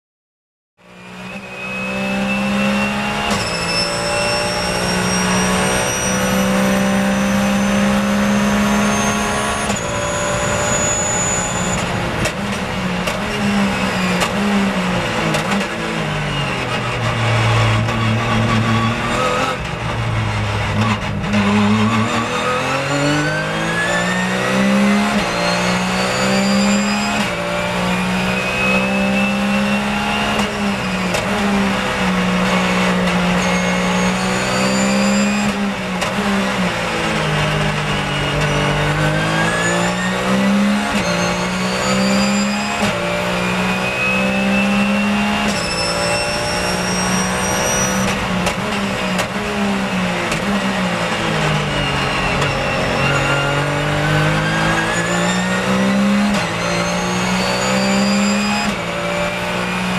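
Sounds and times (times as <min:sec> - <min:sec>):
race car engine revving: 0:01.0 - 0:59.9.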